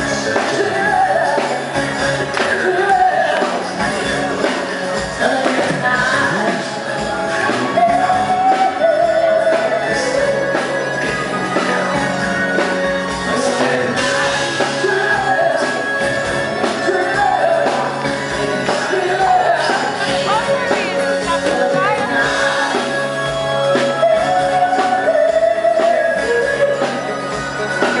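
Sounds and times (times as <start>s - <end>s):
live band playing: 0.0s - 28.0s
person singing: 0.0s - 28.0s.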